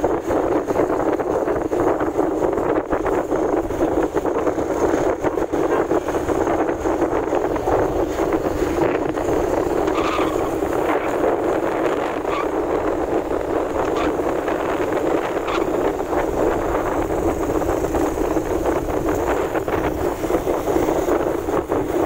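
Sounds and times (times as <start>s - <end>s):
motorcycle engine: 0.0s - 22.0s
road noise: 0.0s - 22.0s
wind buffeting microphone: 0.0s - 22.0s.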